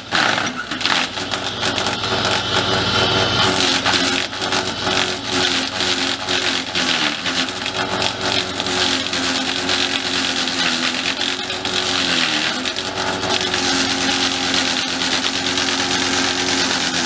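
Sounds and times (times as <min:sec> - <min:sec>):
debarker scraping bark off log: 0:00.0 - 0:17.0
tractor engine running: 0:00.0 - 0:17.0.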